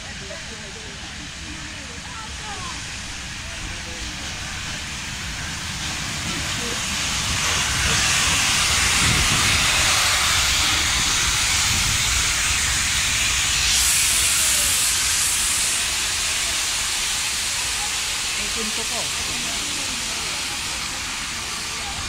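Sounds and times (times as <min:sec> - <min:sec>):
steam hissing: 0:00.0 - 0:22.0
train rumble: 0:00.0 - 0:22.0.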